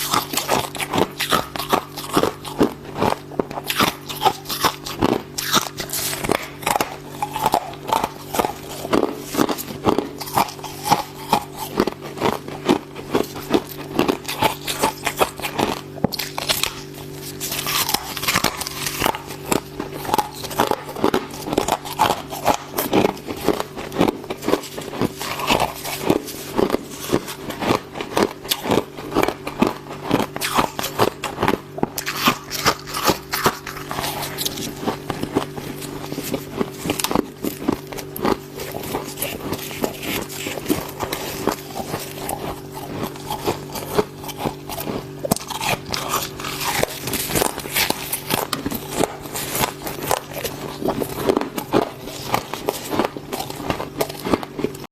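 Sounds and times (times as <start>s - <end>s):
person crunching ice: 0.0s - 54.9s
steady low hum: 0.0s - 54.9s.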